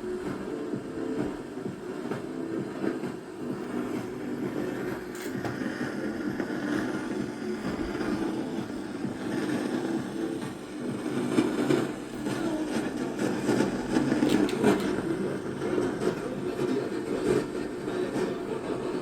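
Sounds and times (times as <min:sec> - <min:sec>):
radio music through speaker: 0:00.0 - 0:19.0.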